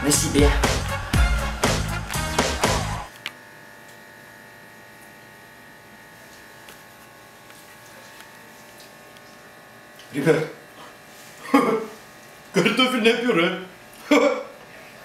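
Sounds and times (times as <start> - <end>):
steady electrical buzz: 0.0 - 15.0.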